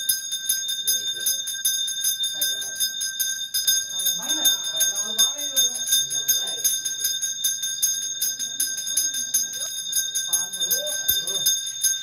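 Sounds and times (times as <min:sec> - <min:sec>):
bell ringing rapidly: 0:00.0 - 0:12.0.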